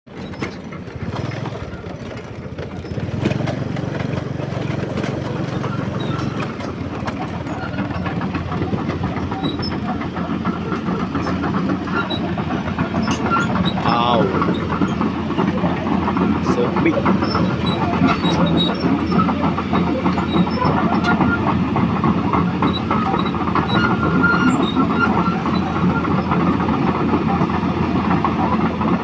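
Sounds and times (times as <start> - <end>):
excavator diesel engine running: 0.1 - 29.0.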